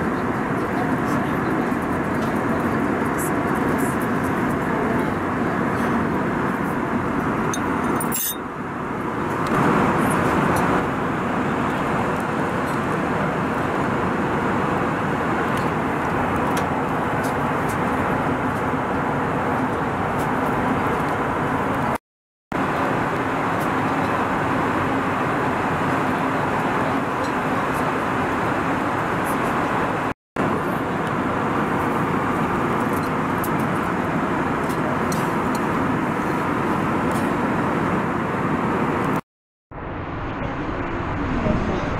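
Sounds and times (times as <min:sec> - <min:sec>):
airliner cabin roar: 0:00.0 - 0:41.9.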